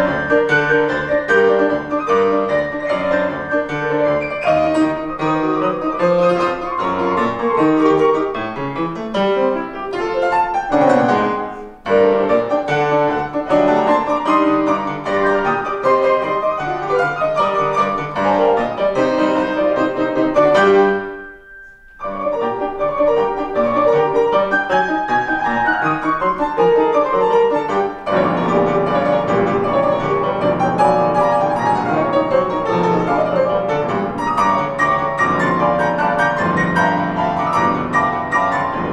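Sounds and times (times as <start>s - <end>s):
grand piano fast passage: 0.0s - 38.9s.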